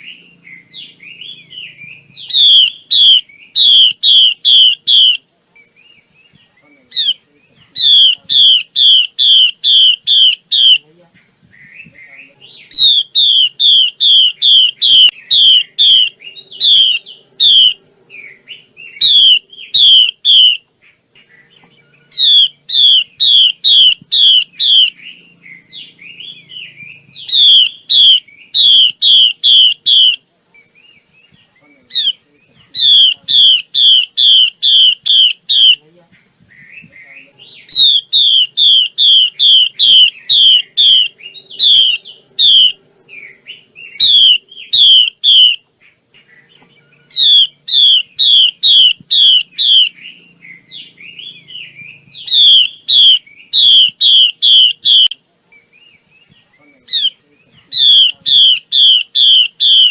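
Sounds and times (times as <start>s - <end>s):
bird whistled song: 0.0s - 10.8s, 11.5s - 35.8s, 36.5s - 59.9s.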